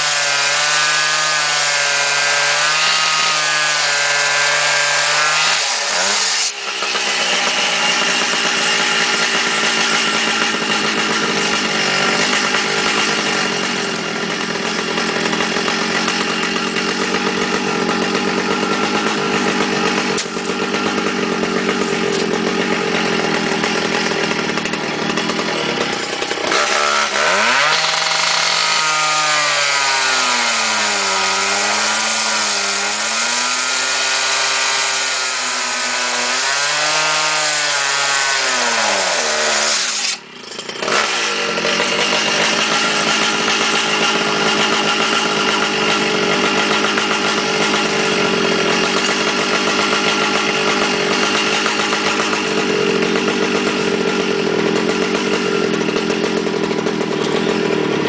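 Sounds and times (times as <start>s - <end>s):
abrasive wheel grinding metal: 0.0s - 58.0s
cut-off saw engine revving: 0.0s - 58.0s.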